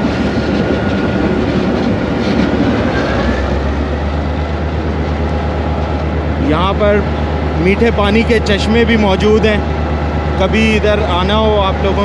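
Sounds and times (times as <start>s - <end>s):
locomotive engine drone: 0.0s - 12.0s
wheel and rail noise: 0.0s - 12.0s.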